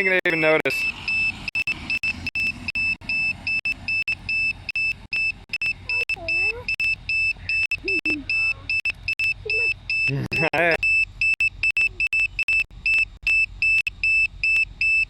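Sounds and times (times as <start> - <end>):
short high-pitched electronic beeps: 0.0 - 15.0.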